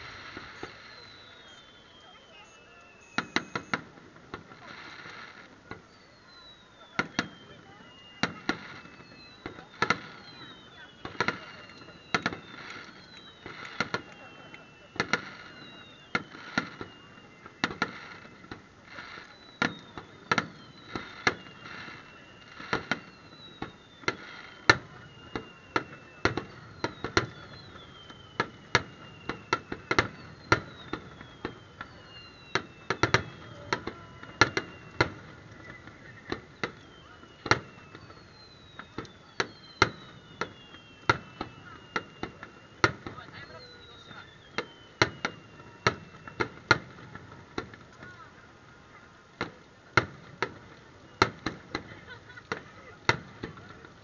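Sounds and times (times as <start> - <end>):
falling firework whistles: 0.0 - 48.4, 49.4 - 54.0
firework bangs: 0.0 - 54.0.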